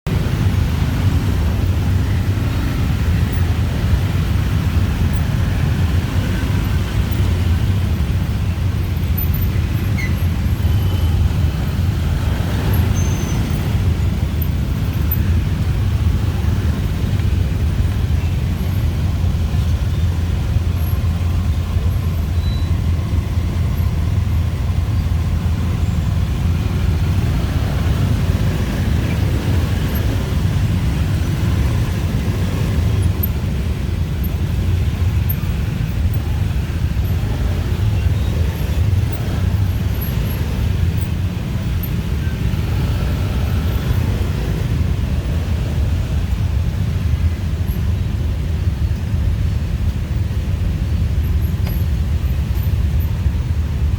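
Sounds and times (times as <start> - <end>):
dense city traffic: 0.0 - 53.9.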